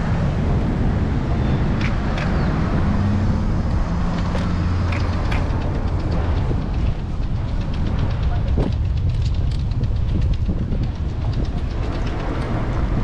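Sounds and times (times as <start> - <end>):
city traffic rumble: 0.0 - 13.0
sharp clicks: 1.7 - 2.6, 3.4 - 13.0.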